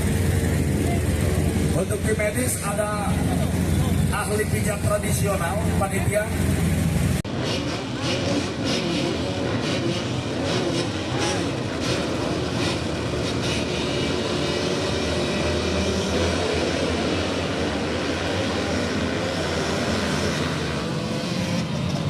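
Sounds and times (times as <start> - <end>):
many motocross engines revving: 0.0 - 22.0.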